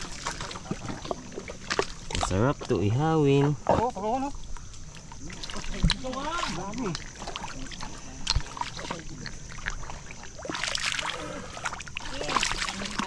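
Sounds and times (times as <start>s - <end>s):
footsteps squelching through mud: 0.0s - 13.0s
splashy footsteps in water: 0.0s - 13.0s.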